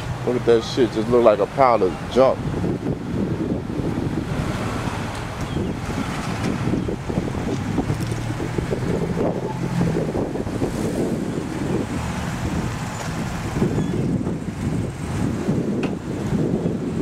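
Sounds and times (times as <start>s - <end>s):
vehicle low hum: 0.0s - 17.0s
wind buffeting microphone: 0.0s - 17.0s.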